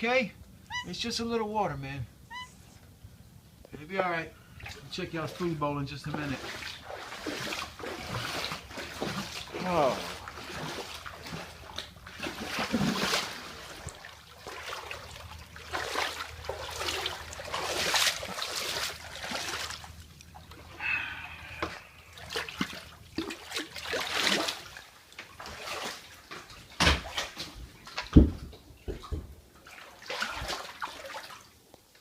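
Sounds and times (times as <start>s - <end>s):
floodwater splashing and sloshing: 4.4s - 32.0s.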